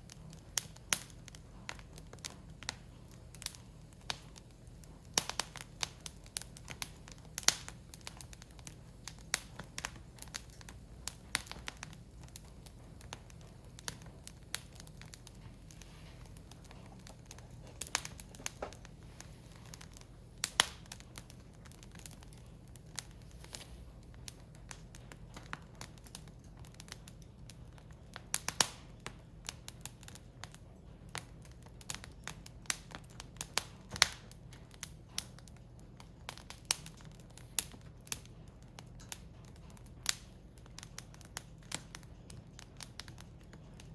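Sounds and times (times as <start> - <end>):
firewood crackling and popping: 0.0 - 43.9.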